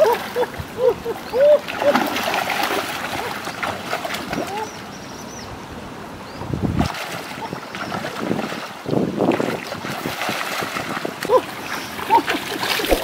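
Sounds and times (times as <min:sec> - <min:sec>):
people wading through water: 0:00.0 - 0:05.3, 0:06.8 - 0:13.0.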